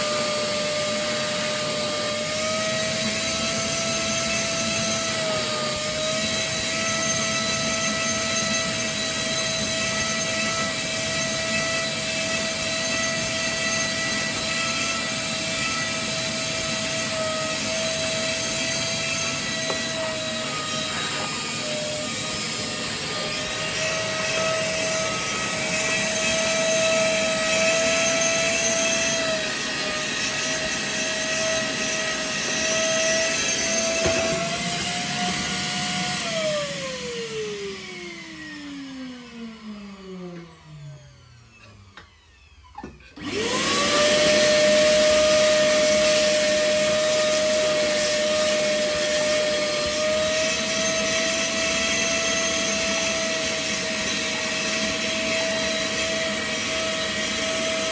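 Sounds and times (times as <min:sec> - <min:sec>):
vacuum cleaner motor whining: 0:00.0 - 0:57.9.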